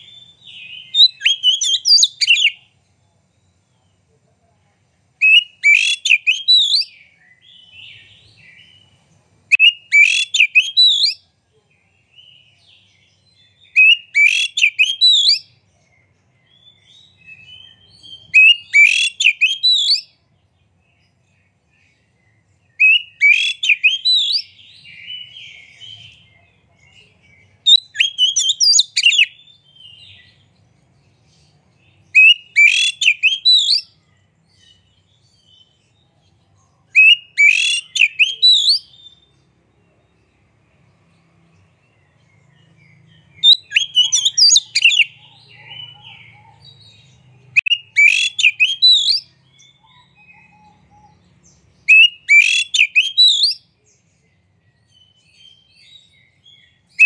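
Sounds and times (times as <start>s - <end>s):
bird whistled song: 0.0s - 2.7s, 5.2s - 11.3s, 12.2s - 15.6s, 16.3s - 20.2s, 21.8s - 26.5s, 27.2s - 30.6s, 31.4s - 36.0s, 36.8s - 39.5s, 41.9s - 57.0s.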